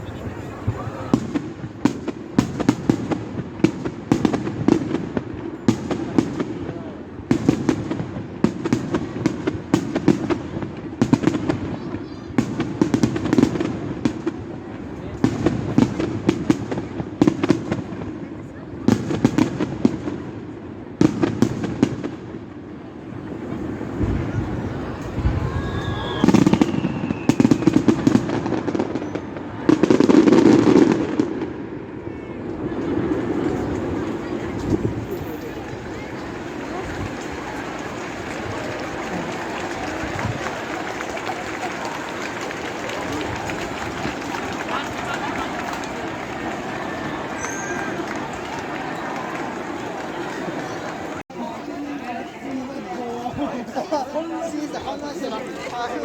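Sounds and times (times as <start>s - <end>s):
fireworks bangs and crackles: 0.0s - 51.2s.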